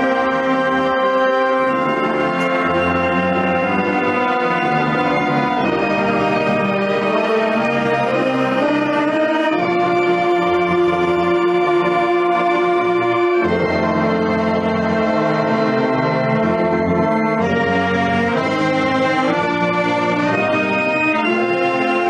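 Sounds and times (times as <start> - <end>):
brass band sustained chords: 0.0 - 22.0.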